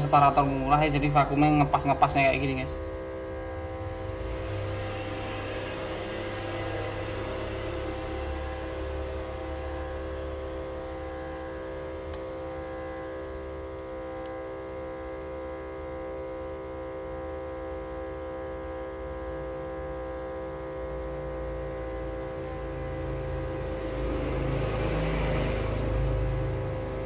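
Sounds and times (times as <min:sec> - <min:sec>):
vacuum pump humming: 0:00.0 - 0:27.0.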